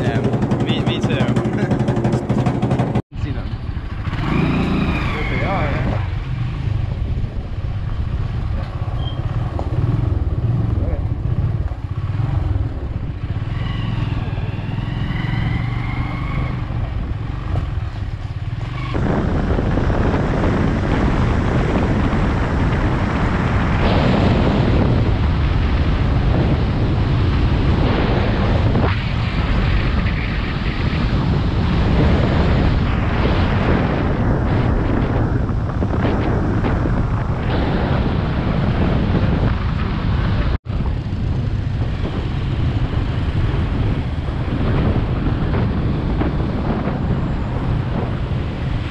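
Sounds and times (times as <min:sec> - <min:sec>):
motorcycle engine running: 0:00.0 - 0:04.9, 0:05.7 - 0:15.5, 0:16.6 - 0:48.9
wind rushing over microphone: 0:00.0 - 0:48.9.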